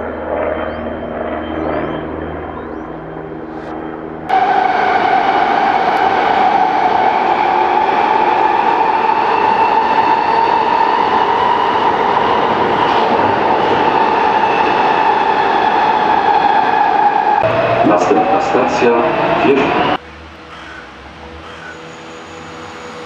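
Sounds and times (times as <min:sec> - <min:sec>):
subway train running: 0:03.4 - 0:23.0.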